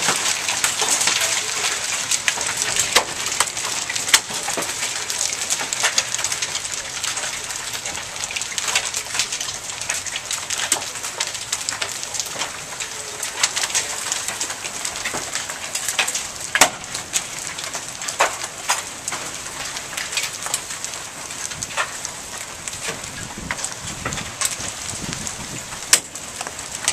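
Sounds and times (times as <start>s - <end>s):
hail ticking and clacking: 0.0s - 26.9s
rain hissing: 0.0s - 26.9s.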